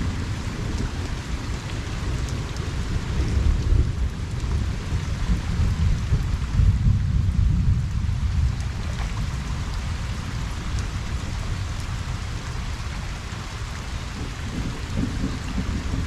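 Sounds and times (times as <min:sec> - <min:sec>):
distant thunder rumble: 0:00.0 - 0:16.0
rain falling on a pond: 0:00.0 - 0:16.0.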